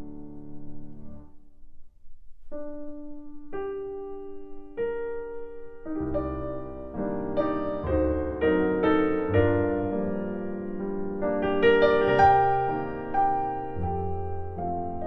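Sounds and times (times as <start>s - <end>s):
piano music: 0.0s - 1.4s, 2.5s - 15.0s.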